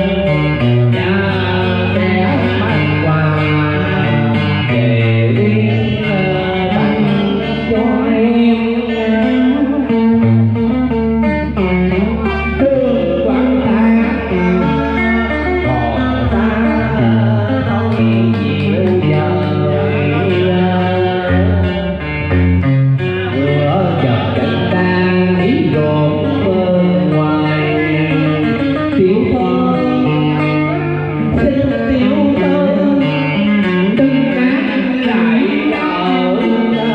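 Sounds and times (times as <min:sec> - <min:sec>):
plucked guitar melody: 0:00.0 - 0:36.9
sustained bass notes: 0:00.0 - 0:36.9.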